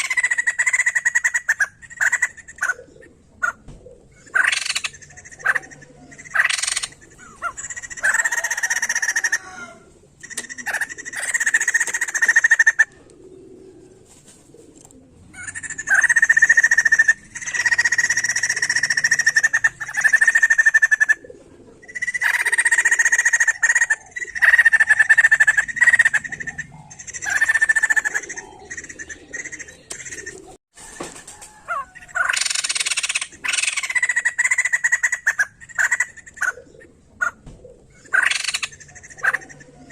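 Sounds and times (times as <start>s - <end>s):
laughingthrush chattering calls: 0.0s - 3.6s, 4.3s - 13.0s, 15.4s - 21.2s, 21.8s - 30.6s, 31.4s - 37.4s, 38.0s - 39.9s.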